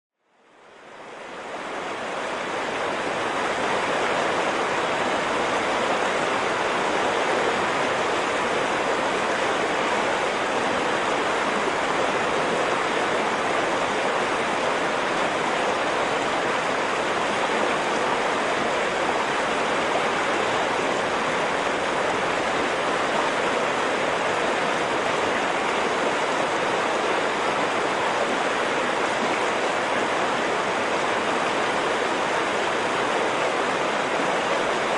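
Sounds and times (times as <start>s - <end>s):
flowing stream water: 0.2s - 34.9s.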